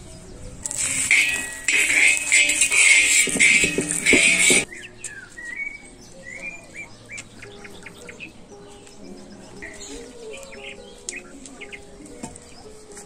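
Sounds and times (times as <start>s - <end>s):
small birds chirping: 0.0s - 13.0s
soft background music: 0.0s - 13.0s.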